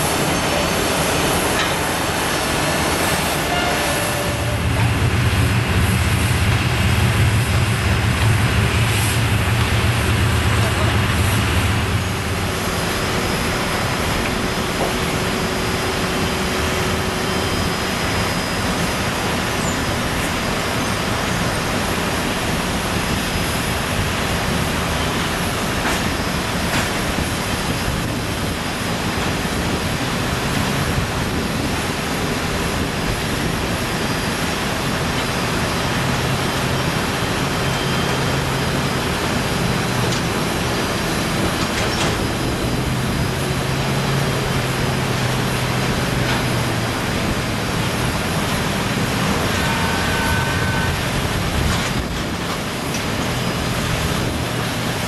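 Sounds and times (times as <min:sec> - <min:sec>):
aircraft engines roaring: 0:00.0 - 0:55.0
low engine drone: 0:00.0 - 0:55.0.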